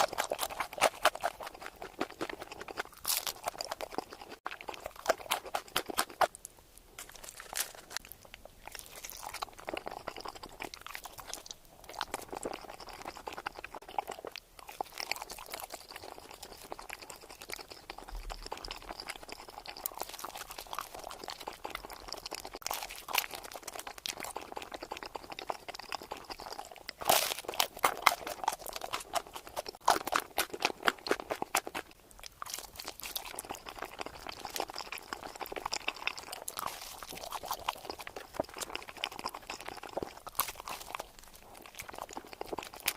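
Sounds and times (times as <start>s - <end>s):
crunchy food chewing: 0.0s - 42.9s.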